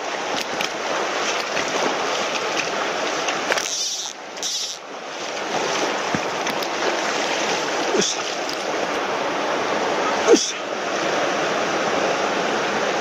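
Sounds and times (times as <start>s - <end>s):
stream rushing over riffles: 0.0s - 13.0s.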